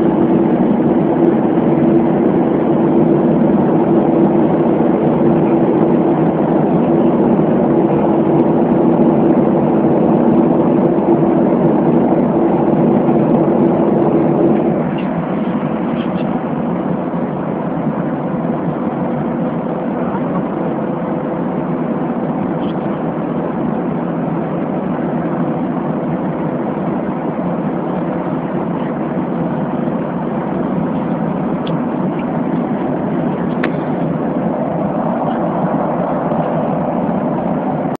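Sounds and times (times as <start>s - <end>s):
airliner cabin engine noise: 0.0s - 38.0s.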